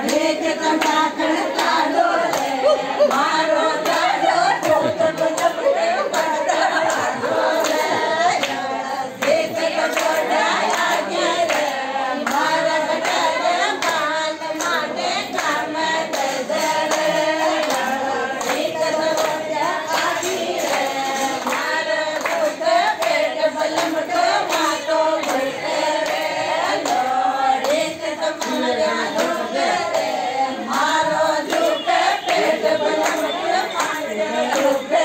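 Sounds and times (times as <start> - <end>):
group of voices singing: 0.0 - 35.0
hands clapping: 0.0 - 35.0.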